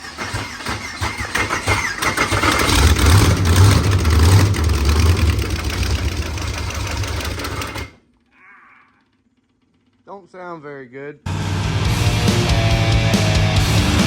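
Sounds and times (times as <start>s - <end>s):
race car engine starting and running: 0.0s - 8.2s, 9.0s - 10.1s, 11.3s - 14.0s.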